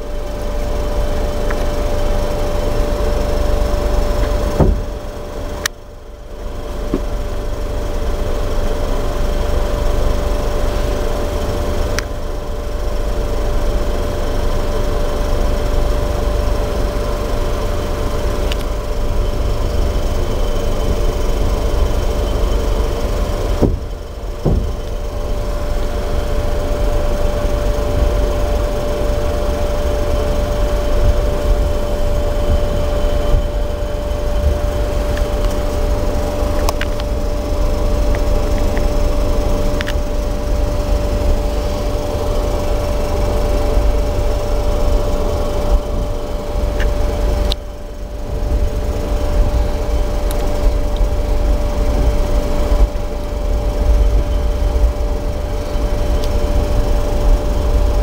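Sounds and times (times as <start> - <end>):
constant hum: 0.0 - 58.0
train coach rumbling: 1.0 - 5.7, 6.4 - 58.0.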